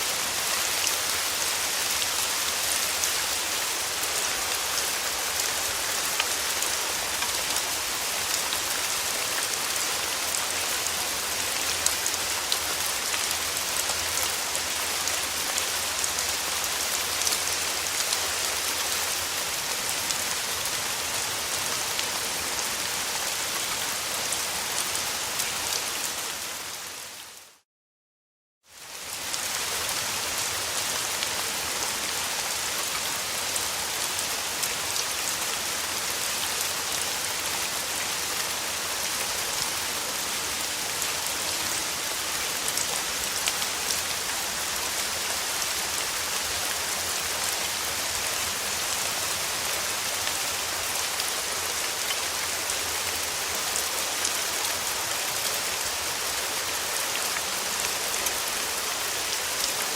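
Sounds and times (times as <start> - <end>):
steady rain with drops ticking: 0.0 - 27.6, 28.6 - 59.9.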